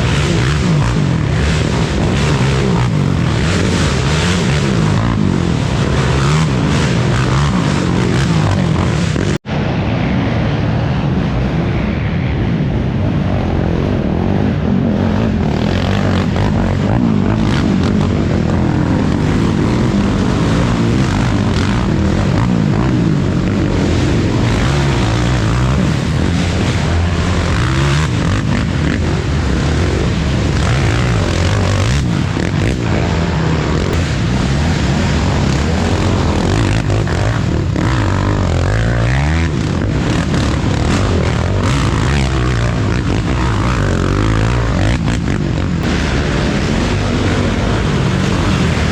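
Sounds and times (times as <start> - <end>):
quad engines revving: 0.0 - 9.4, 13.4 - 48.9.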